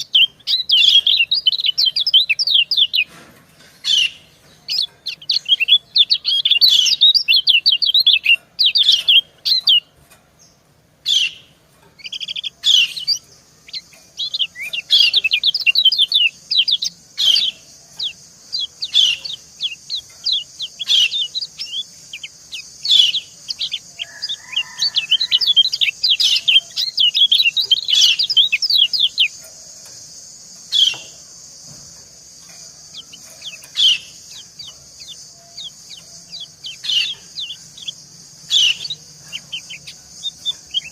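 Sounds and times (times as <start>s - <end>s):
birds chirping: 0.0s - 40.9s
steady high hiss: 0.0s - 40.9s.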